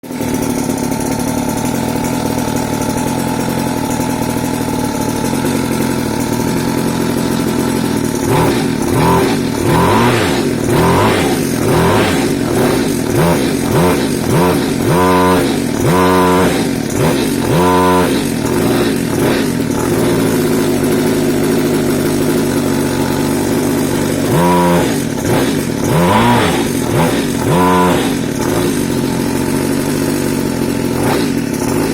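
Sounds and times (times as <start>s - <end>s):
small engine idling and revving: 0.0s - 31.9s.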